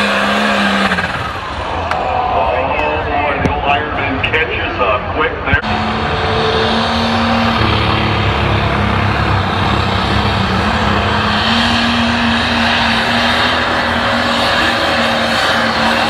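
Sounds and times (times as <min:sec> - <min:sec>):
tractor diesel engine at full load: 0:00.0 - 0:03.3, 0:03.9 - 0:16.0.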